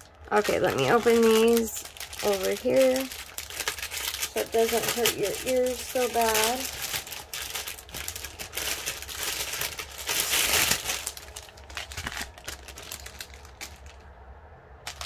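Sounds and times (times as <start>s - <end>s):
plastic wrapping crinkling: 0.0s - 14.1s.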